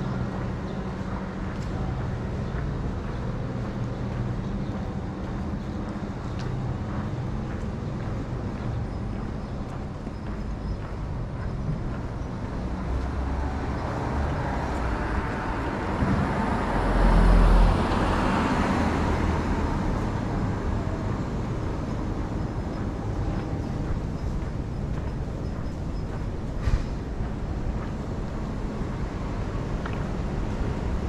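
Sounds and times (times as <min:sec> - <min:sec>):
steady traffic: 0:00.0 - 0:31.0.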